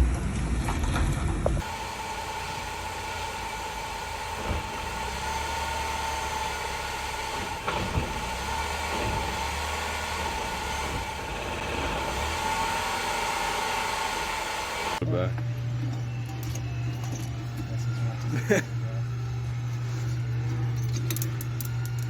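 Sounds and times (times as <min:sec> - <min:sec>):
car engine idling with whine: 0:00.0 - 0:22.0.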